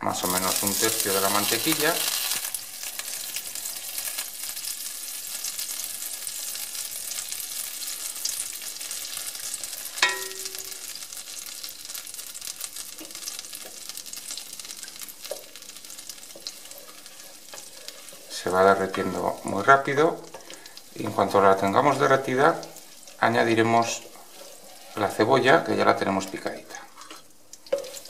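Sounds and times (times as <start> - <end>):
butter sizzling in a pan: 0.1 - 28.0.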